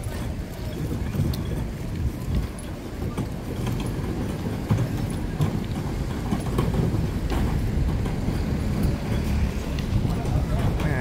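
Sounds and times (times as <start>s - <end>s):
passing vehicles rumbling: 0.0s - 11.0s.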